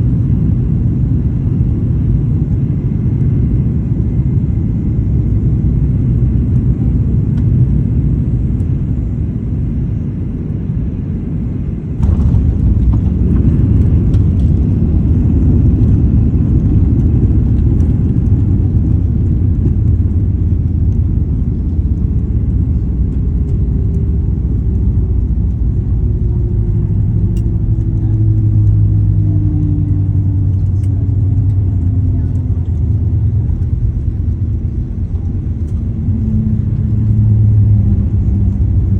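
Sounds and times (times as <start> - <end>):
aircraft cabin rumble: 0.0 - 38.9.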